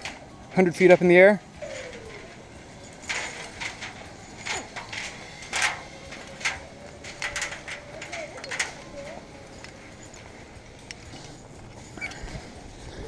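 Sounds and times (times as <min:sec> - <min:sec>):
metallic clicks and clinks: 0:00.9 - 0:13.0.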